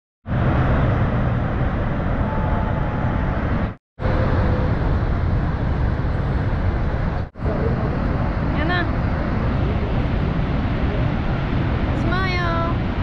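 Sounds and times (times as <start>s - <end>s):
waterfall roaring: 0.3s - 13.0s.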